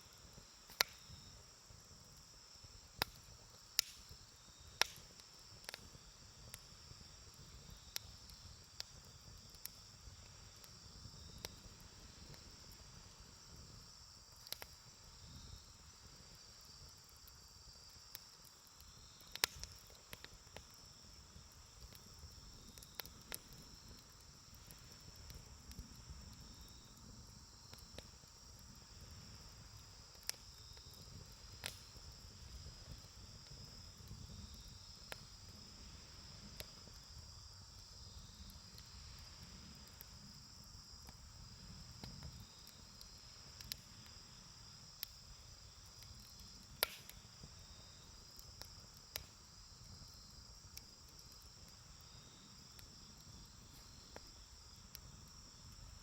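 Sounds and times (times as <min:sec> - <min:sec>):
insects chirring: 0:00.0 - 0:56.0
campfire crackling and popping: 0:00.1 - 0:56.0.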